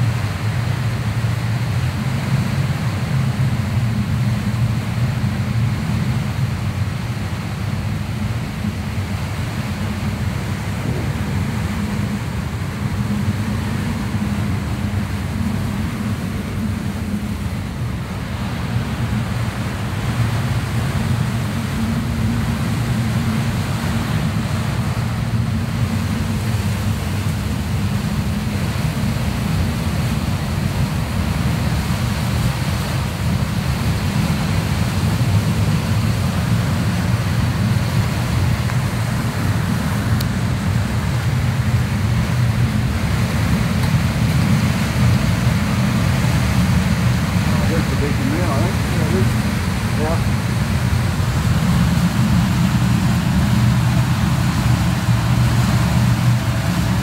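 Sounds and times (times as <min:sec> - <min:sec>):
boat engine droning: 0:00.0 - 0:57.0
wind and water rushing: 0:00.0 - 0:57.0.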